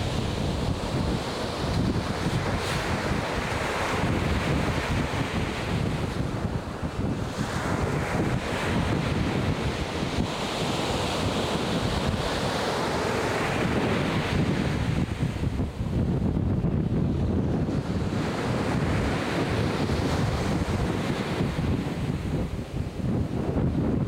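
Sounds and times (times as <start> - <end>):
ocean surf breaking: 0.0 - 16.0, 17.2 - 23.6
wind rumbling on microphone: 0.0 - 24.0.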